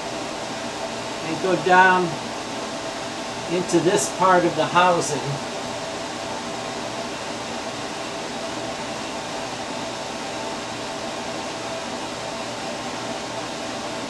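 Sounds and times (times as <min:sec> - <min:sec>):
faint tonal hum: 0:00.0 - 0:14.0
fan hiss: 0:00.0 - 0:14.0.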